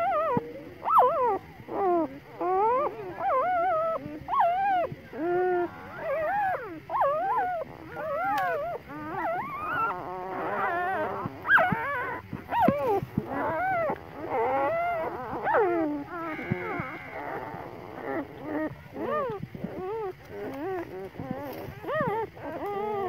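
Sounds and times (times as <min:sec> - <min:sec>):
puppies whimpering and crying: 0:00.0 - 0:23.0.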